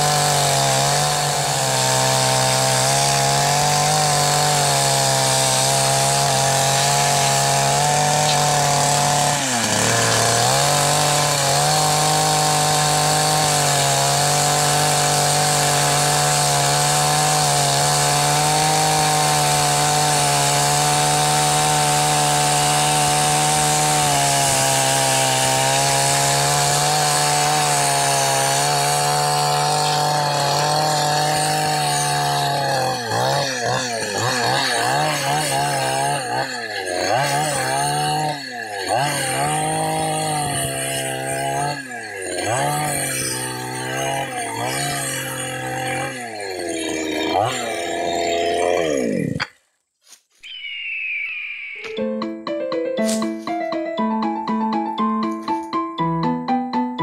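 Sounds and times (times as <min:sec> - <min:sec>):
chainsaw cutting log: 0:00.0 - 0:49.6.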